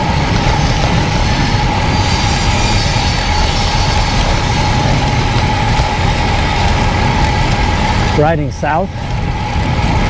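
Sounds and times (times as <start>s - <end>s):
thin steady whine: 0.0s - 10.0s
wind buffeting microphone: 0.0s - 10.0s.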